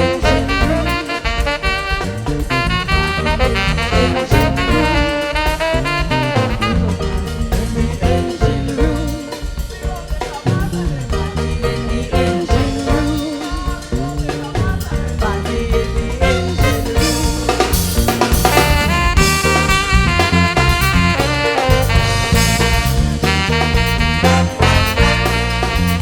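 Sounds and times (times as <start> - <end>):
big band playing jazz: 0.0 - 26.0
drum kit: 0.0 - 26.0.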